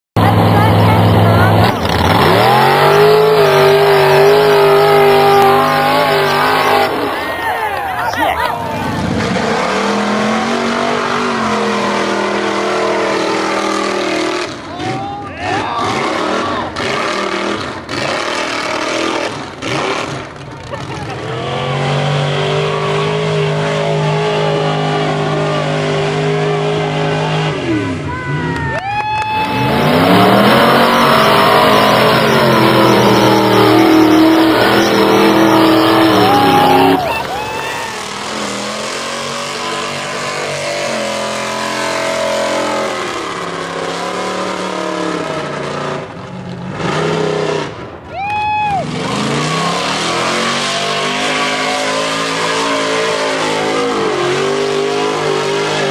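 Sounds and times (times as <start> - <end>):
trucks revving through mud: 0.2 - 55.9.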